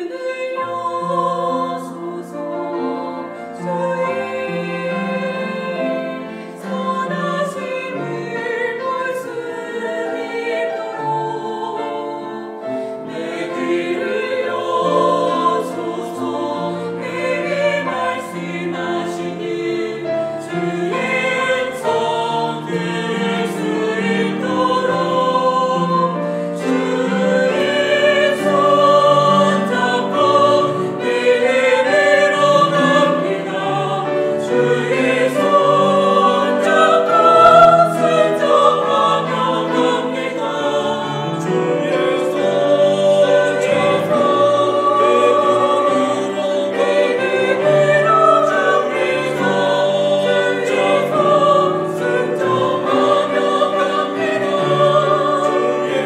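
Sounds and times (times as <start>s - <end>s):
instrumental accompaniment: 0.0s - 56.0s
mixed choir singing: 0.0s - 56.0s.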